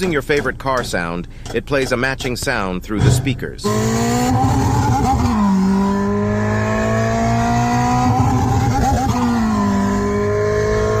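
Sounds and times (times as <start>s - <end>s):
synthetic sports car engine sound: 0.0s - 11.0s.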